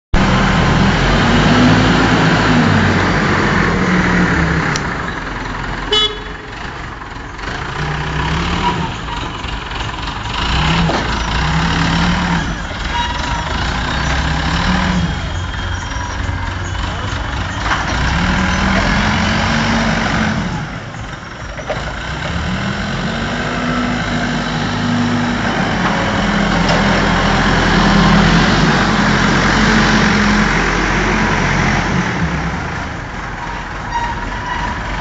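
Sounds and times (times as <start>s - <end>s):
forklift engine revving: 0.2s - 35.0s.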